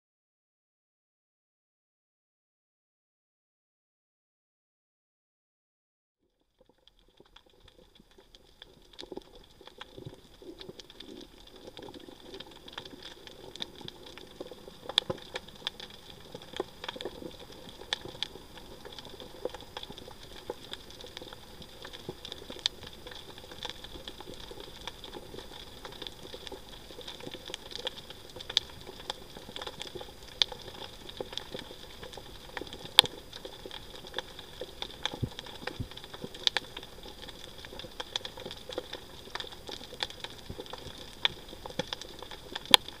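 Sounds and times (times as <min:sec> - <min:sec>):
underwater crackle of clicks: 0:06.3 - 0:43.0.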